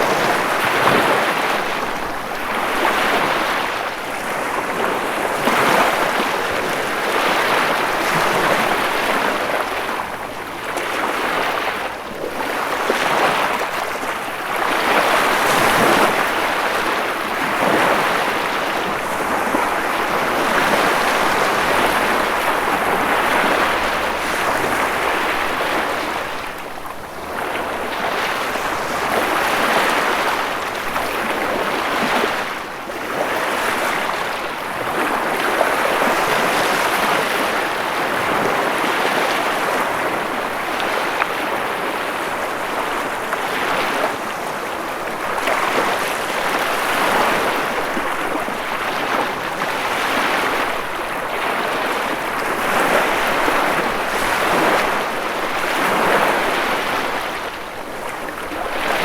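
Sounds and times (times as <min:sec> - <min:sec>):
ocean waves washing onto shore: 0:00.0 - 0:59.0.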